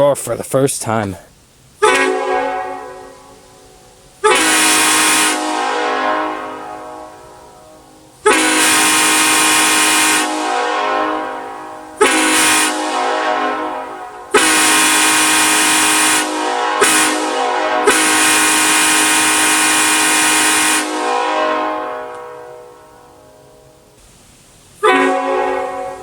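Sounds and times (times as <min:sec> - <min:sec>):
horn chord echoing: 0:01.8 - 0:24.0, 0:24.8 - 0:26.0
locomotive horn blasts: 0:01.8 - 0:24.0, 0:24.8 - 0:26.0.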